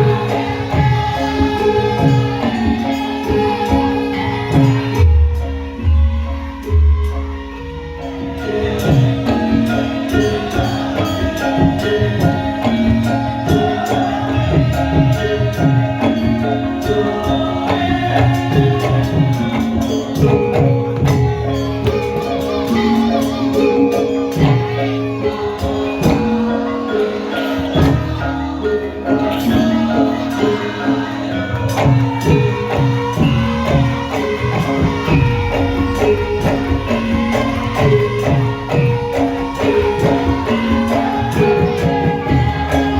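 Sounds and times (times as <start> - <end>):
gamelan percussion and drums: 0.0 - 42.9
metal mallet instruments: 0.0 - 42.9.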